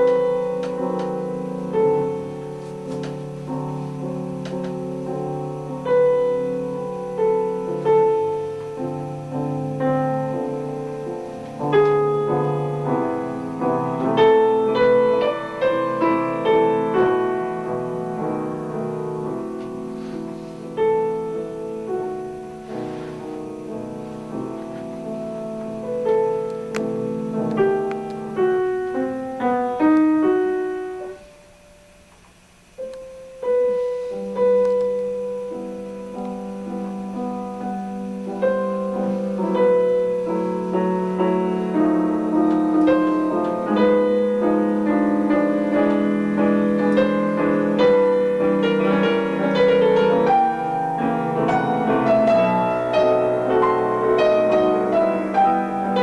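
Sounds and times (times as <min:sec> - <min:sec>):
piano playing: 0:00.0 - 0:56.0.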